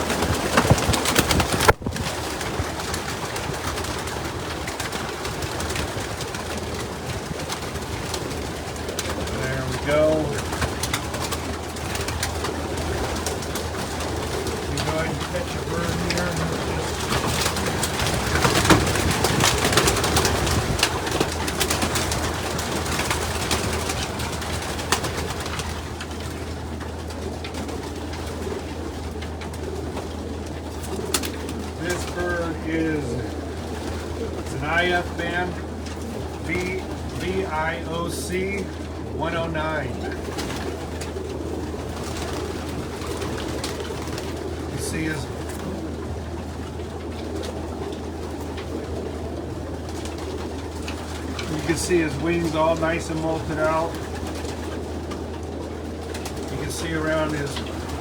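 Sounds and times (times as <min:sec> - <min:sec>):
pigeon wingbeats and scuffling: 0:00.0 - 0:58.0
pigeons cooing: 0:00.0 - 0:58.0.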